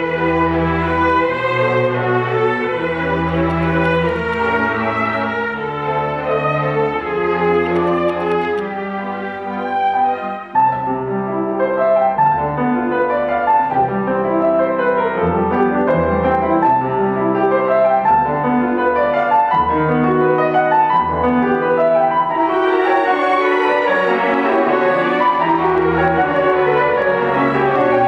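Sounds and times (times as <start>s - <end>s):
grand piano playing classical: 0.0s - 28.0s.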